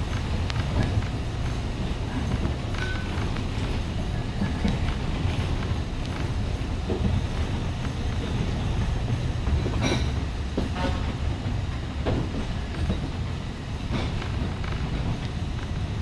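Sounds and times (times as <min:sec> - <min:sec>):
train car rumbling on track: 0:00.0 - 0:16.0
wheels clicking over rail joints: 0:00.0 - 0:16.0.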